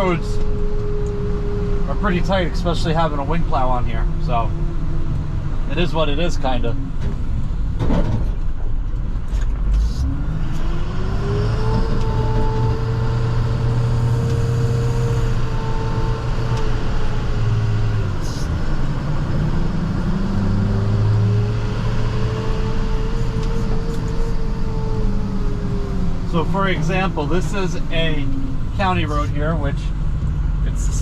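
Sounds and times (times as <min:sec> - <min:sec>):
truck engine hum with whine: 0:00.0 - 0:31.0.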